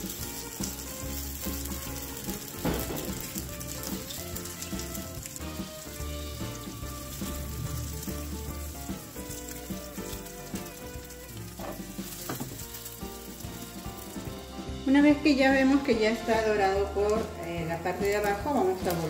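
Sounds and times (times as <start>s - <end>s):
background music: 0.0s - 19.0s
oil sizzling and crackling: 0.0s - 19.0s.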